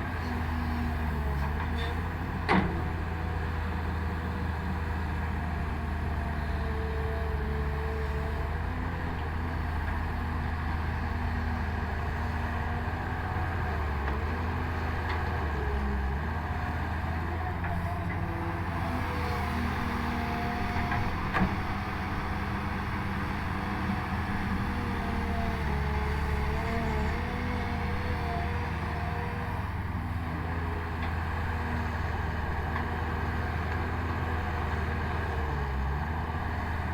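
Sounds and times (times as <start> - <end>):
excavator diesel engine: 0.0 - 36.9.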